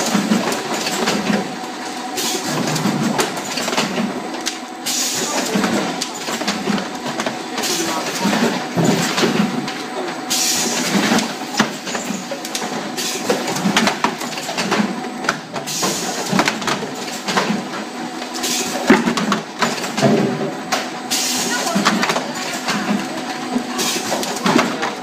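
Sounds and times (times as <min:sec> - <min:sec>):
packing machine clattering: 0:00.0 - 0:01.7, 0:05.1 - 0:25.0.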